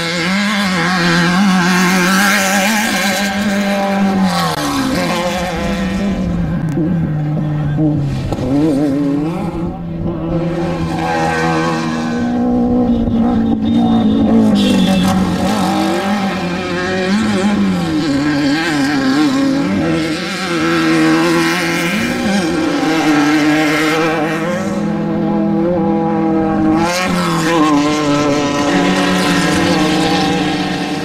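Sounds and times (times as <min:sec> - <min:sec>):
race vehicle engines revving: 0:00.0 - 0:31.0.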